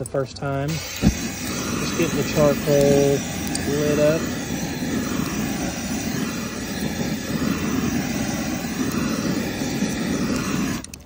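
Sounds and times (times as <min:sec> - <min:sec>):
propane torch flame blowing: 0:00.7 - 0:11.0.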